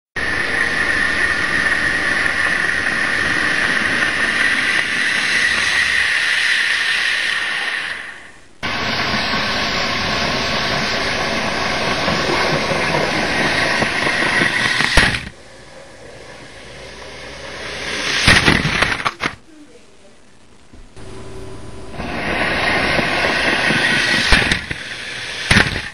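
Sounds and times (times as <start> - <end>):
model train motor whine: 0.2 - 19.4, 21.0 - 25.9.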